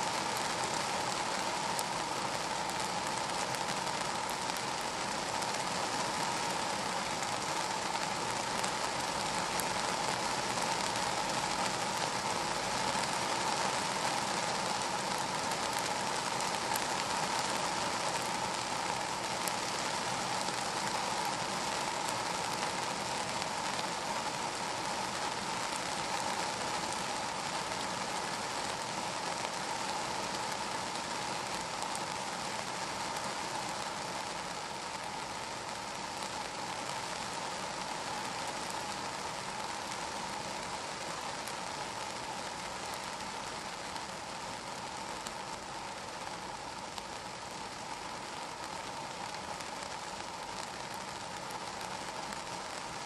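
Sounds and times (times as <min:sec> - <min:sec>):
rain on a car roof: 0:00.0 - 0:53.0.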